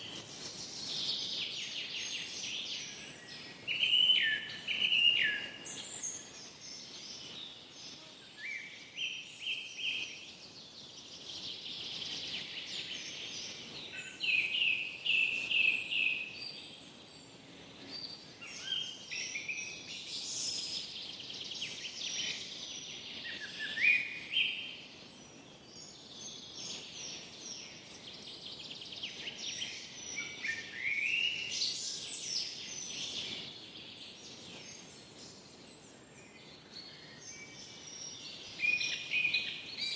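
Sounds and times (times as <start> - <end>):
faint steady hiss: 0.0 - 39.9
songbirds chirping and trilling: 0.0 - 39.9.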